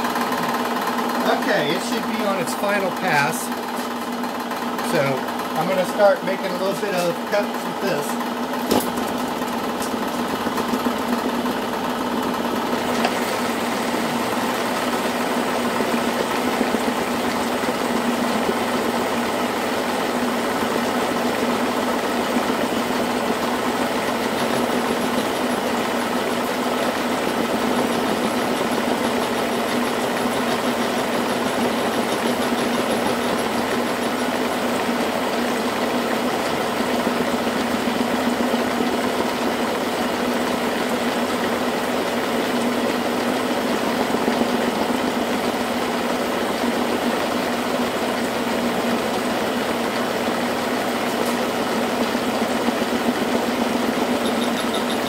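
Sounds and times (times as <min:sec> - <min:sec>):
milling machine hum: 0:00.0 - 0:55.0
cutter milling metal: 0:04.7 - 0:55.0.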